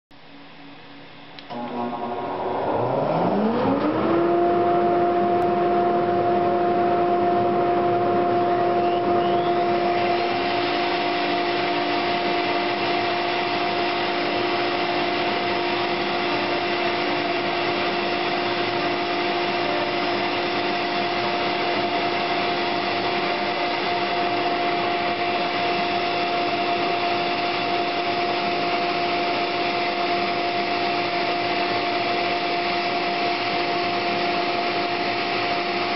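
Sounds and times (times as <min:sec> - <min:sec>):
spindle motor whine: 0:00.5 - 0:35.9
router bit carving wood: 0:01.5 - 0:35.9.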